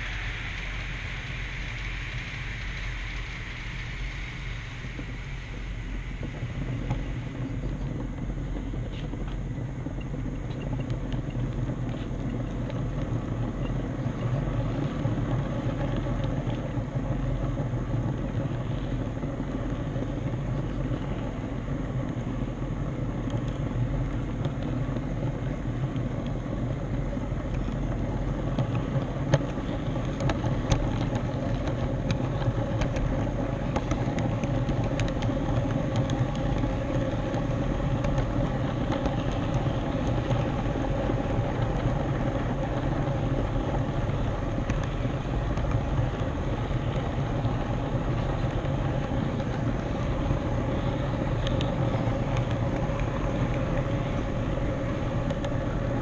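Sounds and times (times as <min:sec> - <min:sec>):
model train wheels rumbling: 0:00.0 - 0:56.0.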